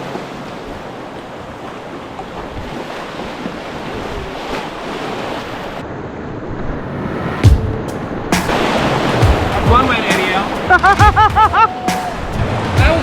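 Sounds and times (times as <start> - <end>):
rushing river whitewater: 0.0 - 13.0.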